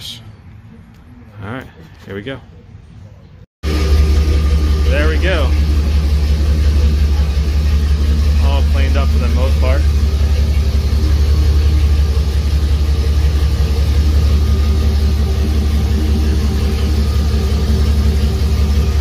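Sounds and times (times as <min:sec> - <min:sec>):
vehicle engine idling: 0:01.8 - 0:19.0.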